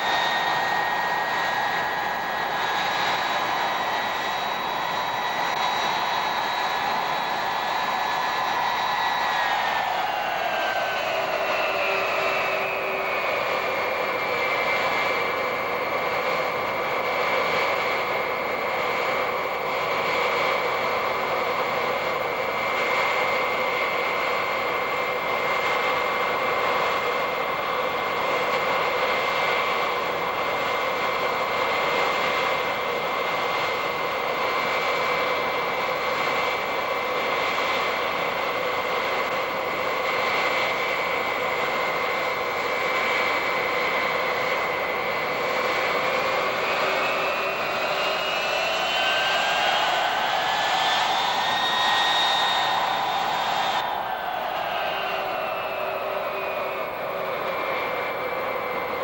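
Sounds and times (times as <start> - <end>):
jet engine roar: 0.0 - 59.0
jet engine whine: 0.0 - 59.0.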